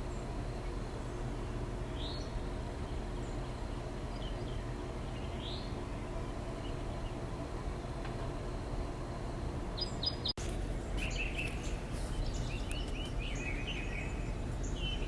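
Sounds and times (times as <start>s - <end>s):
birds chirping: 0.0s - 7.4s, 9.7s - 15.0s
low background rumble and hum: 0.0s - 15.0s.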